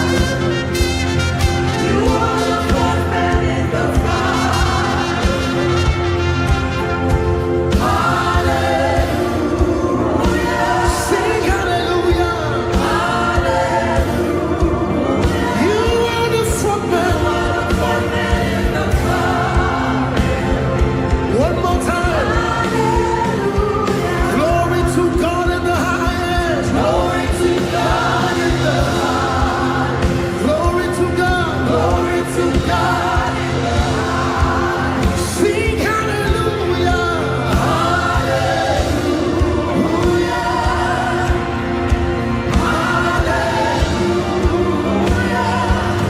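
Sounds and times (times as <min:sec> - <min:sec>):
band bass and drum groove: 0:00.0 - 0:46.0.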